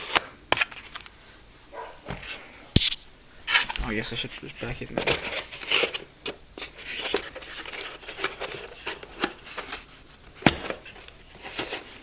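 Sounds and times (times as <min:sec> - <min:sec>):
cardboard rustling and crinkling: 0:02.0 - 0:12.0.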